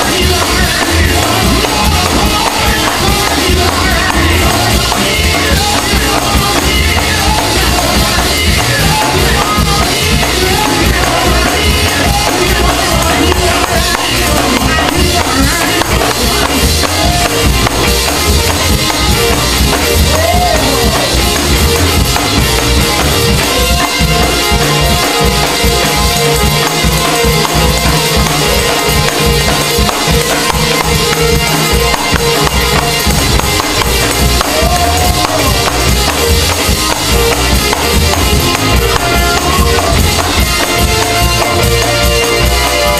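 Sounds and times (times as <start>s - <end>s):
drums: 0.0s - 42.9s
keyboard: 0.0s - 42.9s
person singing: 0.0s - 42.9s.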